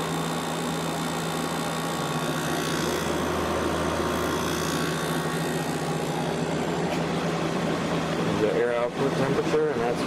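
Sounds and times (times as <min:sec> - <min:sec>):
compressor humming: 0:00.0 - 0:10.0
fan air rushing: 0:00.0 - 0:10.0.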